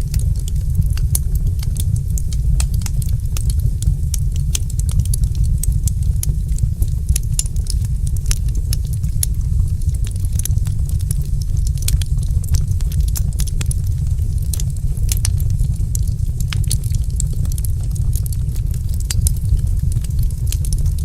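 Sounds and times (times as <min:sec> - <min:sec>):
steady low rumble: 0:00.0 - 0:21.0
wood fire crackling and popping: 0:00.0 - 0:21.0.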